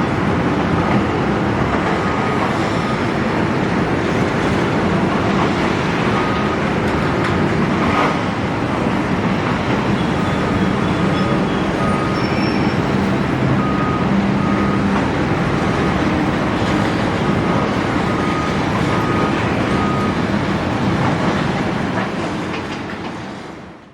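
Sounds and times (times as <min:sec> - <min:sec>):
excavator diesel engine and hydraulics: 0:00.0 - 0:23.9.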